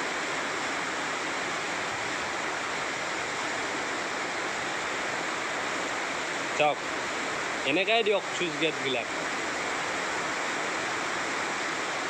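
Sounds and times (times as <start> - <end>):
water rushing through sluice gate: 0.0 - 12.0.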